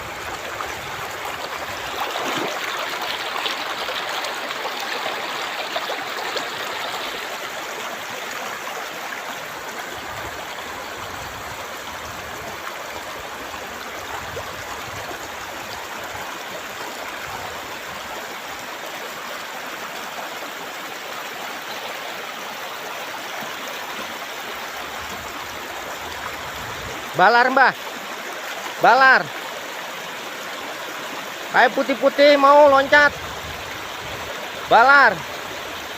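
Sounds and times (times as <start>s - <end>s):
river flowing over stones: 0.0s - 35.9s.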